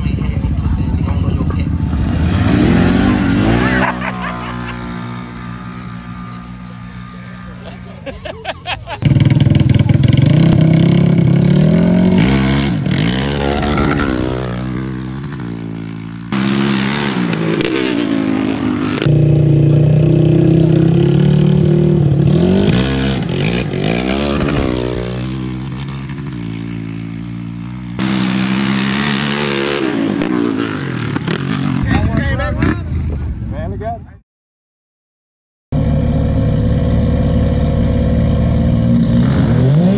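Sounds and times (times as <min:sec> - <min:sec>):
atv engines accelerating: 0:00.0 - 0:34.2, 0:35.8 - 0:39.9.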